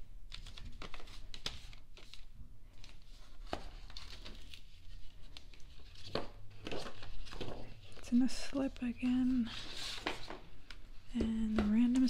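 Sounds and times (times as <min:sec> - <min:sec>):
packaging crinkling and rustling: 0:00.0 - 0:11.1.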